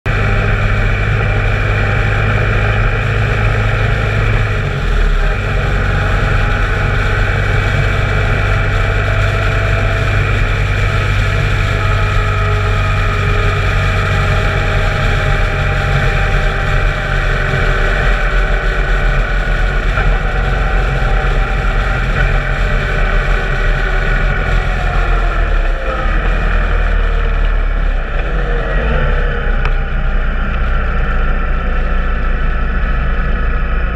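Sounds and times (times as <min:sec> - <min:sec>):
motorcycle engine running: 0:00.0 - 0:33.9
wind rush: 0:00.0 - 0:33.9.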